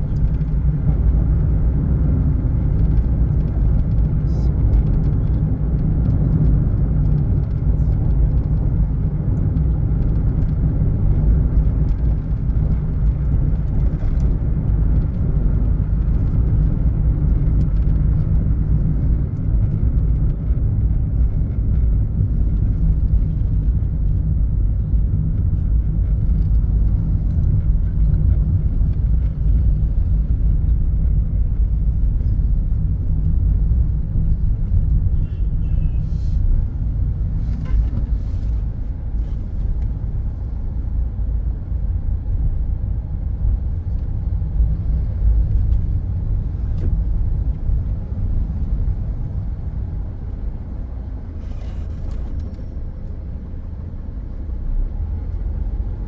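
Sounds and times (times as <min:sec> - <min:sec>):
road noise: 0:00.0 - 0:56.0
road vehicle rumble: 0:00.0 - 0:56.0.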